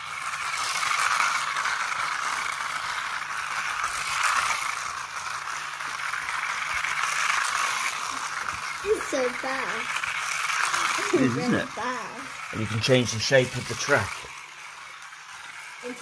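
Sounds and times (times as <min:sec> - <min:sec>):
plastic wheels clattering on track: 0:00.0 - 0:16.0
toy car motor whirring: 0:00.0 - 0:16.0.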